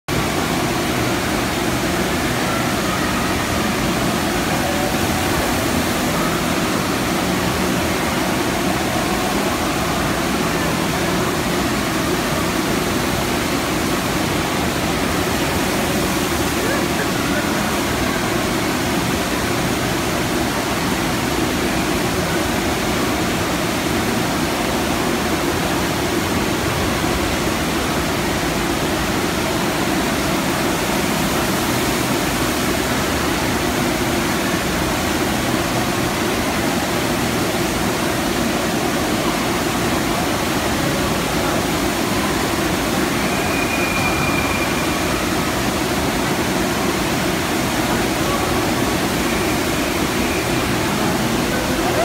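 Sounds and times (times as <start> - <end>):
rushing water sheet: 0.1 - 52.0.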